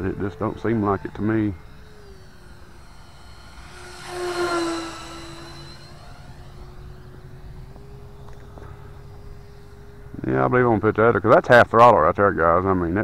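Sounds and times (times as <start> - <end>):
model jet ducted fan whine: 0.0 - 13.0.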